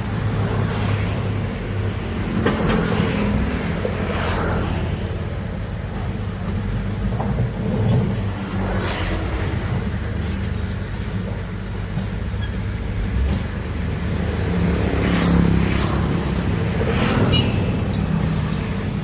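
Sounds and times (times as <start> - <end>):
heavy diesel engine under load: 0.0 - 19.0.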